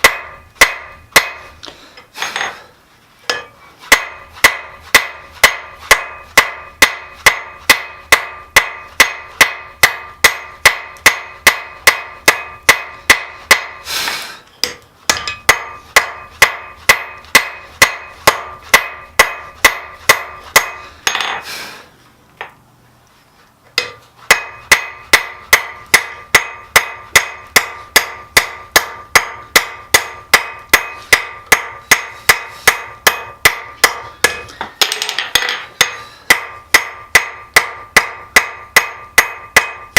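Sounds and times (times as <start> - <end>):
hammer striking steel on anvil: 0.0 - 1.6, 3.2 - 13.9, 14.6 - 21.5, 23.8 - 39.9.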